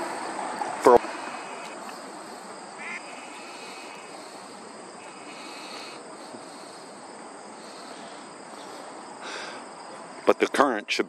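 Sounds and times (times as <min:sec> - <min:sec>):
faint insect trills: 0:00.0 - 0:11.0
outdoor background hiss: 0:00.0 - 0:11.0.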